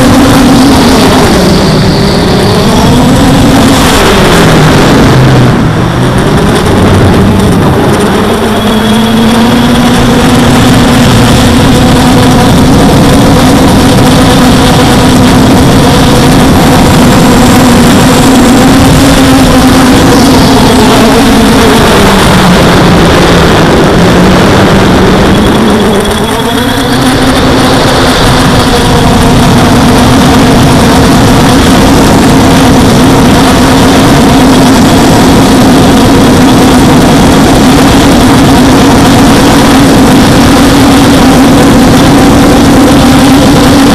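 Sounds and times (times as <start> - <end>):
drone motors whining: 0.0 - 43.9
rush of air: 0.0 - 43.9.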